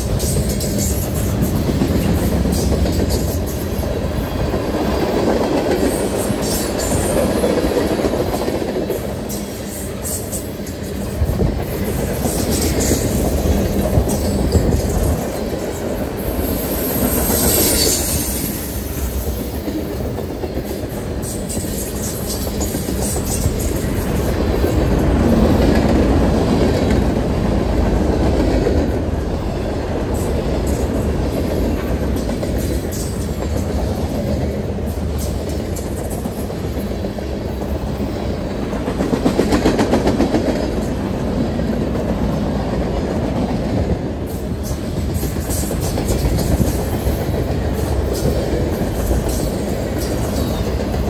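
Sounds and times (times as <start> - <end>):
clickety-clack over rail joints: 0.0 - 51.0
freight train wheels rumbling on rails: 0.0 - 51.0.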